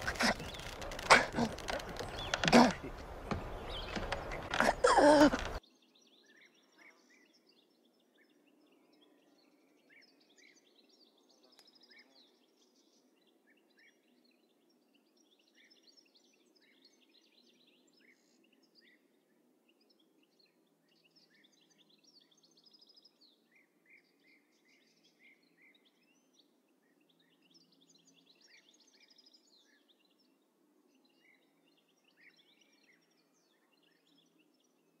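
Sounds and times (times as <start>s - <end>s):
faint birdsong chirps: 0.0s - 35.0s.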